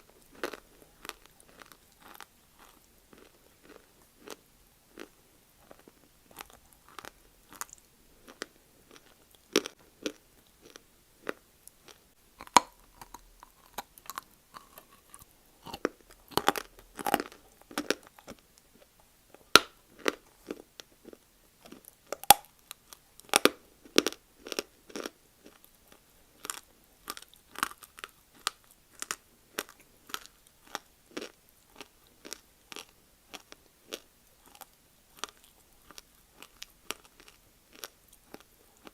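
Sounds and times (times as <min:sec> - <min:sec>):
clay being bitten and chewed: 0:00.1 - 0:38.9.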